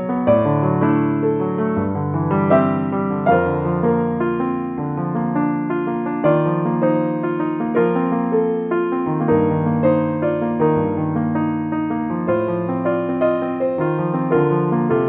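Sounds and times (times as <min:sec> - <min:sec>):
piano melody over chords: 0:00.0 - 0:15.0.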